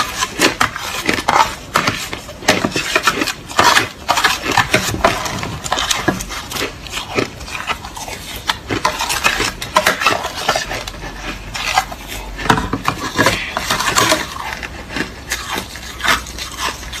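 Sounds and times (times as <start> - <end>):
crushed ice being chewed: 0.0 - 17.0.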